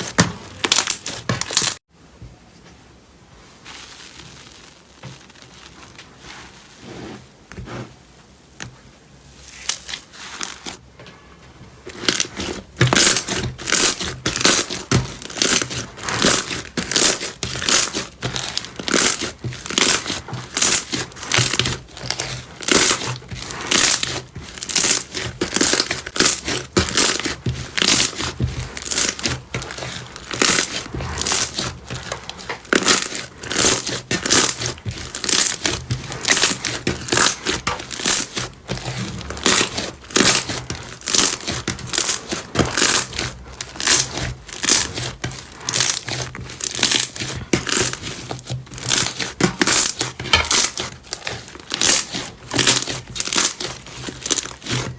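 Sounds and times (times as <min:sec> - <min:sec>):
slime crackling and popping: 0:00.0 - 0:01.8, 0:03.7 - 0:06.2, 0:09.5 - 0:10.8, 0:11.9 - 0:54.9.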